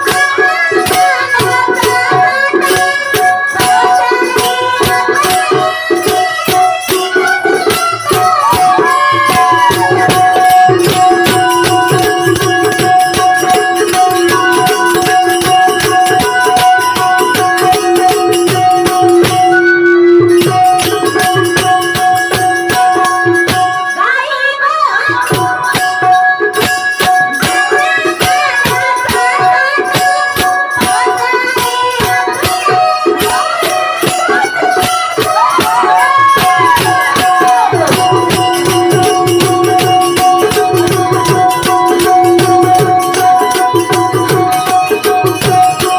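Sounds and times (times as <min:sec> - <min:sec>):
wavering bending melody: 0:00.0 - 0:24.4, 0:25.2 - 0:45.9
rattling jingling percussion: 0:00.0 - 0:45.9
steady held tones: 0:00.0 - 0:45.9.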